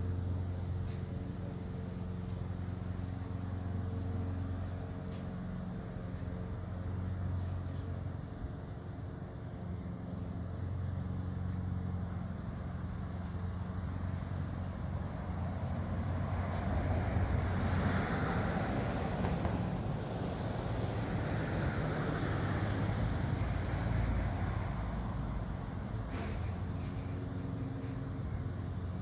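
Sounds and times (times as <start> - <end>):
low engine hum: 0.0 - 29.0
vehicle passing rush: 0.0 - 29.0.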